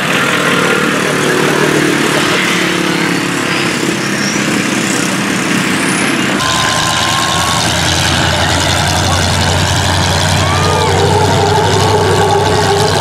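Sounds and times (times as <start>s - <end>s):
deep engine rumble: 0.0s - 13.0s
pickup truck engines running: 0.0s - 13.0s.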